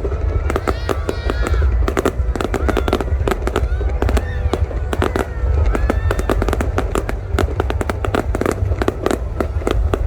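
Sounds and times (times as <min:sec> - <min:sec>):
fireworks bangs and crackling pops: 0:00.0 - 0:10.0
low rumble: 0:00.0 - 0:10.0.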